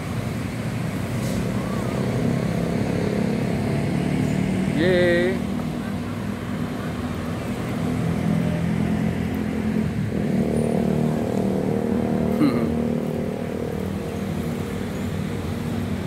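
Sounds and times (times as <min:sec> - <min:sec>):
vehicle engines humming: 0:00.0 - 0:16.0.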